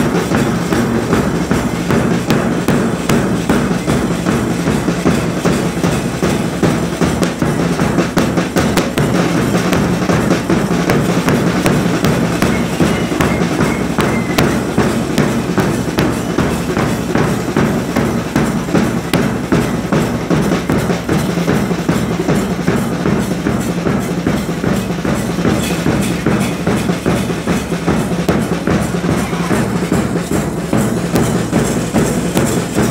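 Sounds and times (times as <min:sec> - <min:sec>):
fast drum music: 0:00.0 - 0:32.9.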